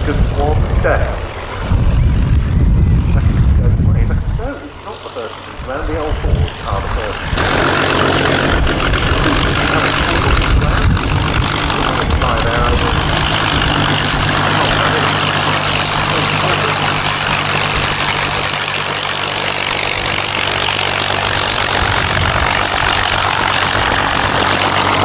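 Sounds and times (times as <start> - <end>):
propeller aircraft engines idling: 0.0 - 25.0.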